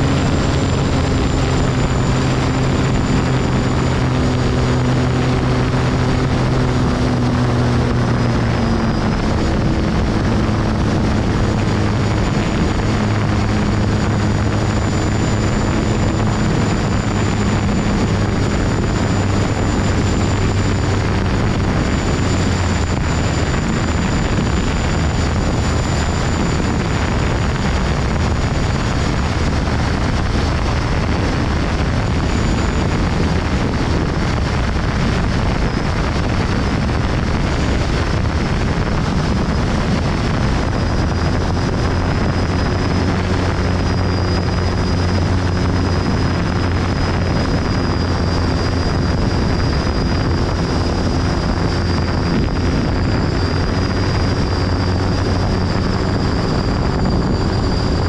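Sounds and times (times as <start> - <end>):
light aircraft engine and propeller: 0.0 - 58.0.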